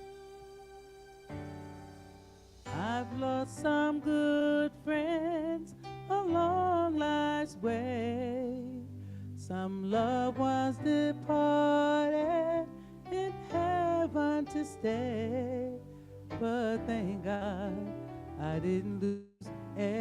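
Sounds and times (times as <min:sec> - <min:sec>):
gospel song instrumental backing: 0:00.0 - 0:20.0
person singing with vibrato: 0:02.6 - 0:20.0.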